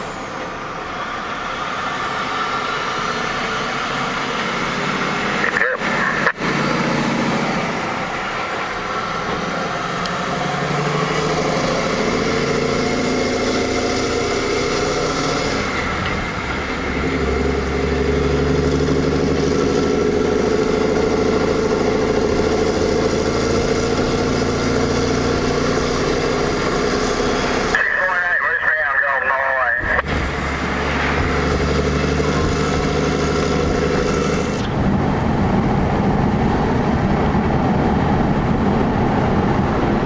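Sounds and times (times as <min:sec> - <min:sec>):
truck diesel engine under load: 0:00.0 - 0:40.0.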